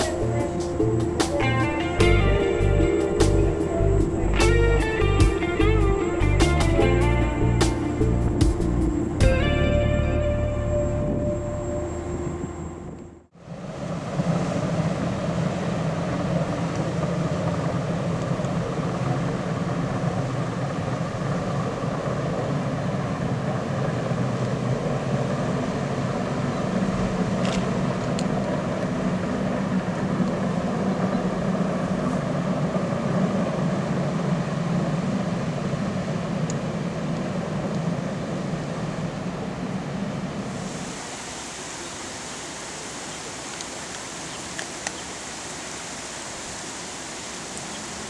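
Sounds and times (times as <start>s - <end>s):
ferry engines droning: 0.0s - 48.0s.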